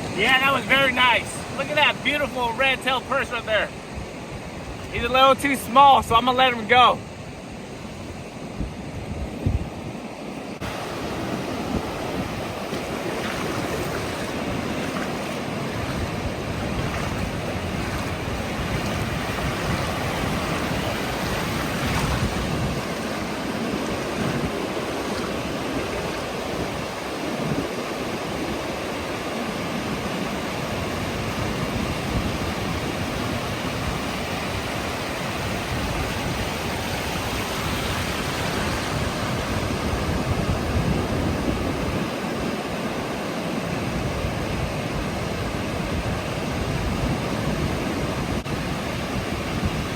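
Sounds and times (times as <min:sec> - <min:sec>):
ocean surf washing ashore: 0:00.0 - 0:49.9
wind on microphone: 0:07.0 - 0:49.9.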